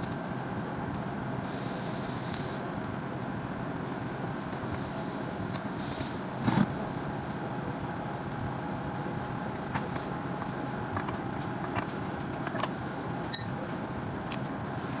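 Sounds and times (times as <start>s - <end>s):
steady background hiss: 0.4s - 15.0s.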